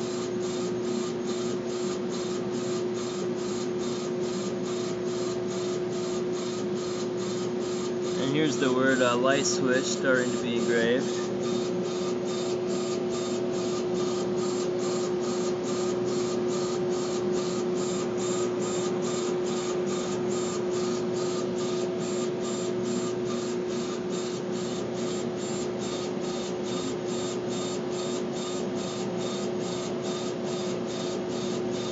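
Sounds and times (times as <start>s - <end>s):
laser engraver hum: 0.0s - 31.9s
pulsing whine of laser head: 0.0s - 31.9s.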